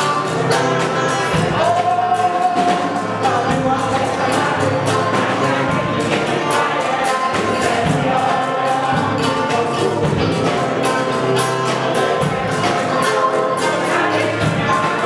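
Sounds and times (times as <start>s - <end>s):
choir singing: 0.0s - 15.0s
drums and percussion beat: 0.0s - 15.0s.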